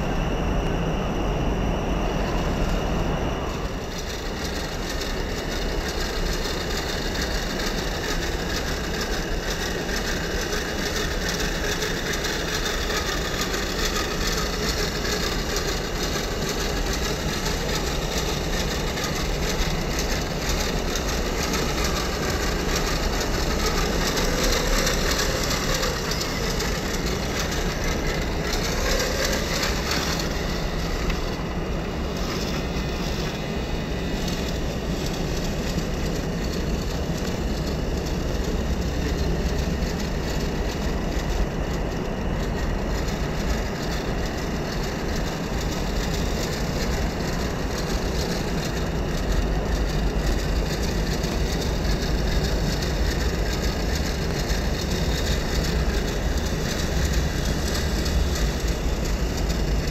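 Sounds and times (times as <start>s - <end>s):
faint wavering whine: 0.0s - 59.9s
toy car electric motor running: 2.1s - 59.9s.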